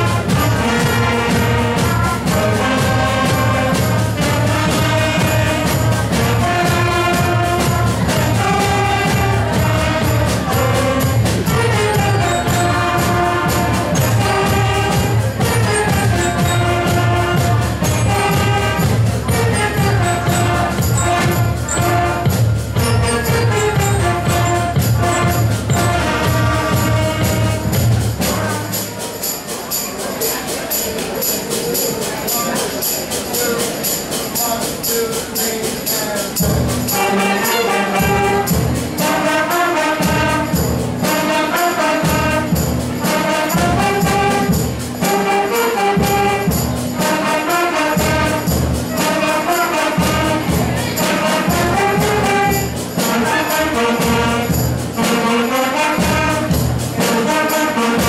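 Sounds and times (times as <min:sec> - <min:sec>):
concert band playing pop song: 0:00.0 - 0:58.0
drum kit beat: 0:00.0 - 0:58.0.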